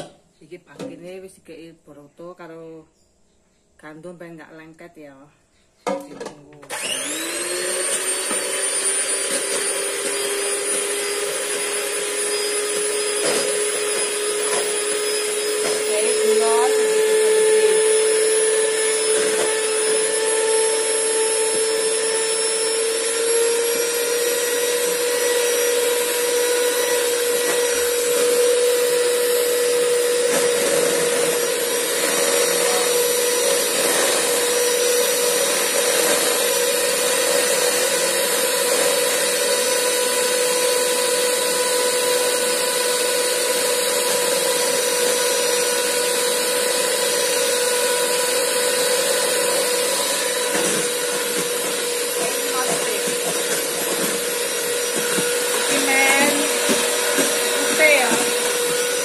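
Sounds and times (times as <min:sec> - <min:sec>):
electric hand mixer whining: 0:06.6 - 0:59.0.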